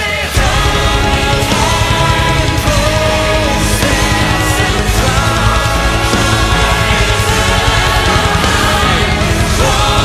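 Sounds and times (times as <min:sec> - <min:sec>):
loud metal band music: 0:00.0 - 0:10.0.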